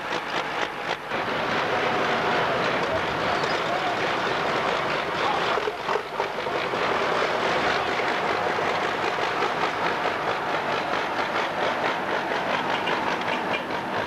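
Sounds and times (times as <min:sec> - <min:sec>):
crawler tractor engine and tracks clattering: 0:00.0 - 0:14.0.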